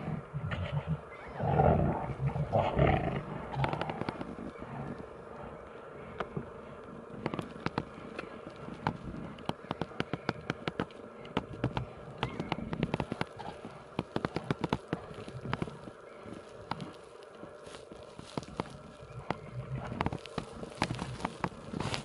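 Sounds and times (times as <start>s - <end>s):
bears growling and roaring: 0.0s - 17.6s, 18.4s - 22.0s.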